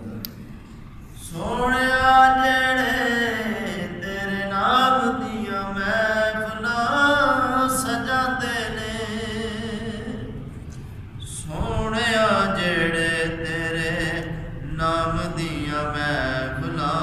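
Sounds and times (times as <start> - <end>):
man singing unaccompanied: 1.2 - 10.4, 11.2 - 17.0.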